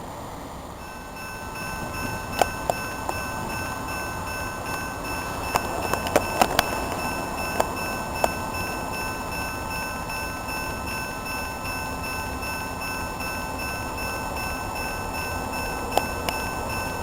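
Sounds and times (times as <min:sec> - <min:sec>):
model train humming and whining: 0:00.0 - 0:17.0.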